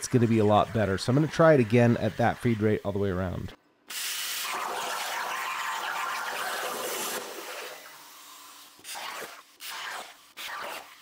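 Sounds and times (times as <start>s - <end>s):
plasma cutter hissing: 0.0s - 3.1s, 3.9s - 11.0s.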